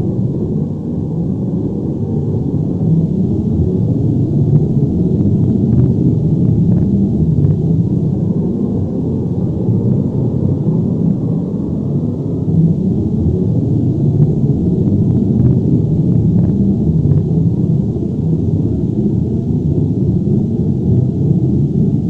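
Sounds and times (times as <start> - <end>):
deep continuous rumble: 0.0 - 22.0.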